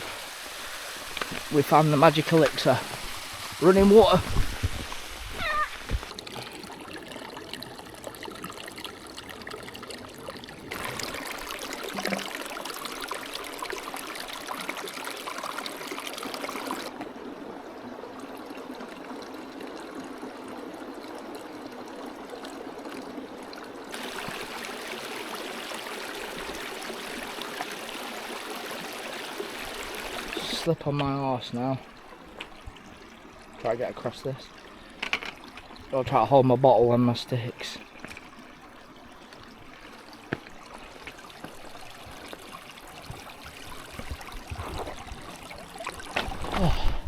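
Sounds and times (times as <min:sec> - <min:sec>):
stream running over rocks: 0:00.0 - 0:47.0.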